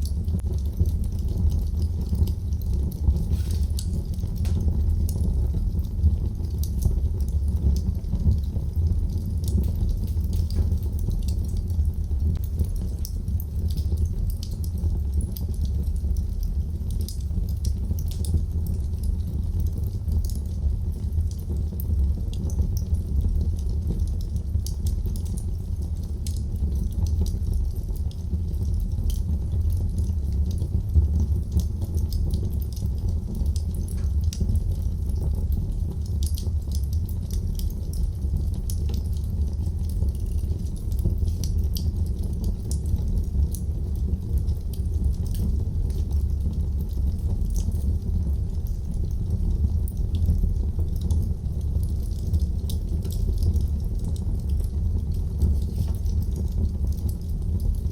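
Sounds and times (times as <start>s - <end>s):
fire crackling and popping: 0.0s - 57.9s
fire rumbling: 0.0s - 57.9s.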